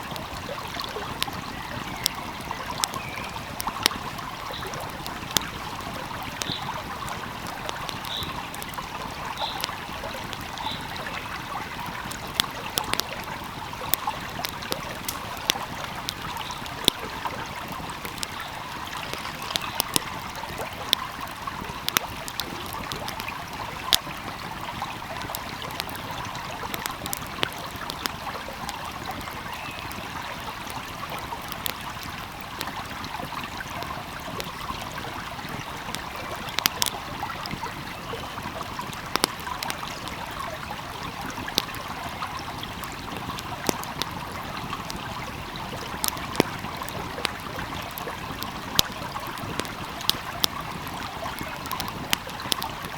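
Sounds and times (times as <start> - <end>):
stream flowing: 0.0 - 52.9
wood fire crackling: 0.0 - 52.9
sharp pops of fire: 0.1 - 11.1, 11.8 - 30.0, 30.7 - 37.7, 38.4 - 40.4, 41.0 - 52.9.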